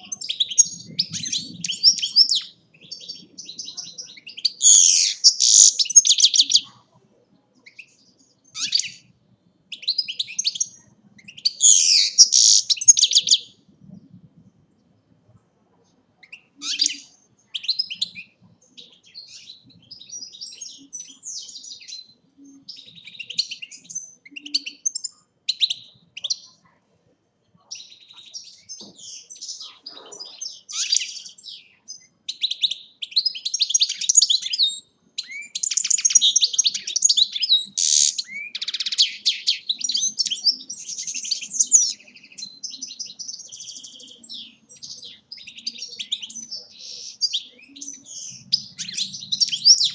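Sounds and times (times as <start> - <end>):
goldfinch singing: 0.0 - 7.0, 7.6 - 9.1, 9.7 - 13.6, 16.2 - 26.6, 27.6 - 49.9.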